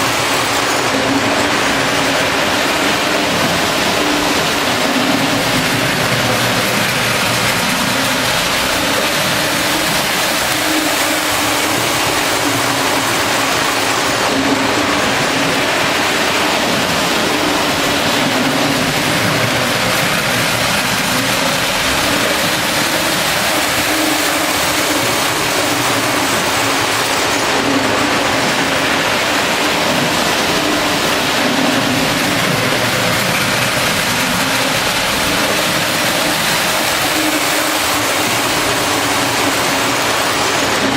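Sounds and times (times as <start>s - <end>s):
model train whirring: 0.0s - 40.9s.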